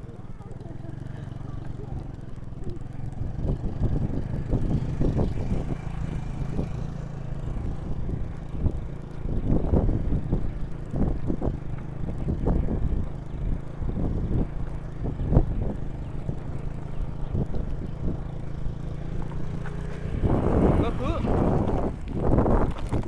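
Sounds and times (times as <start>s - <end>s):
bike jolts: 0.0s - 23.0s
wind buffeting microphone: 0.0s - 23.0s.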